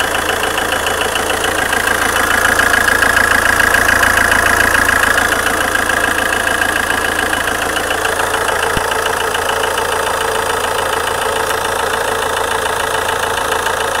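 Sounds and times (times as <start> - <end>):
diesel engine running: 0.0 - 14.0
fast even engine ticking: 0.0 - 14.0.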